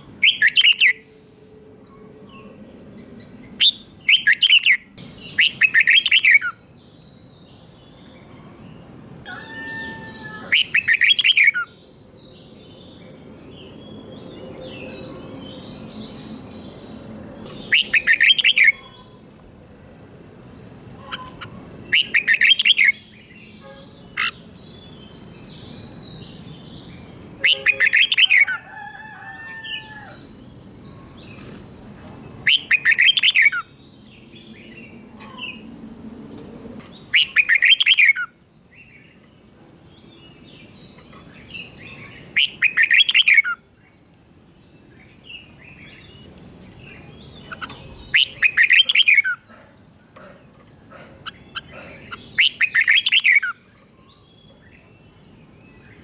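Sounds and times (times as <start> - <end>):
bird singing loud phrases: 0.0 - 19.4, 21.0 - 31.5, 32.2 - 35.7, 36.9 - 56.0.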